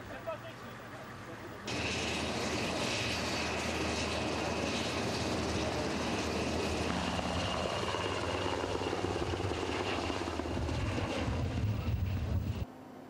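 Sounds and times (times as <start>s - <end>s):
helicopter rotor rumble: 0.0s - 12.7s.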